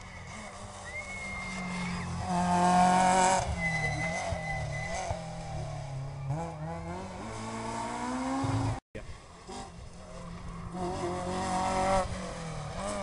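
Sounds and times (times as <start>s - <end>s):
rally car engine revving past: 0.1s - 8.8s, 9.4s - 13.0s.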